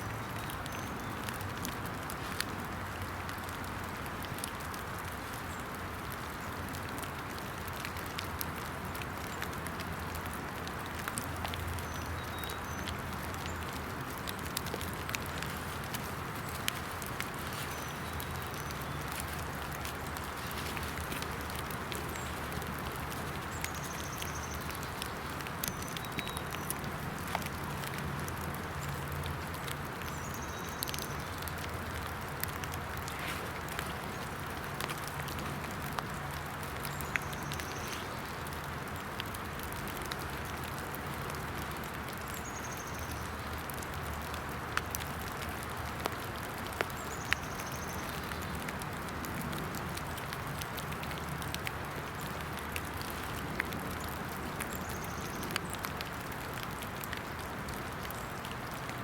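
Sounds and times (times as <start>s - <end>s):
rain falling in woodland: 0.0s - 59.0s.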